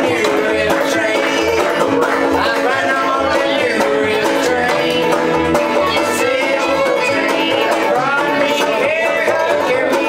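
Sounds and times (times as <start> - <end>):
banjo picking: 0.0 - 10.0
fiddle melody: 0.0 - 10.0
plucked upright bass: 0.0 - 10.0.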